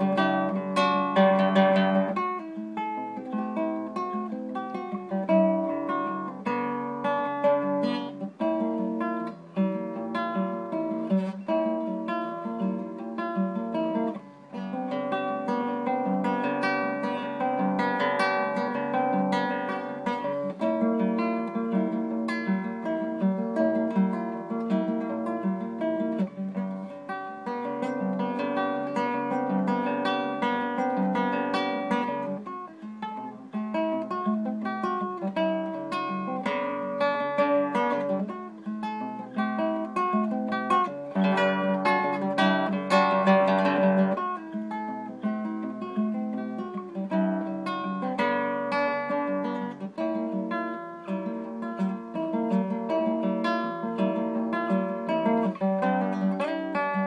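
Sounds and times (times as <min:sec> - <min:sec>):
classical guitar fingerstyle: 0:00.0 - 0:57.0.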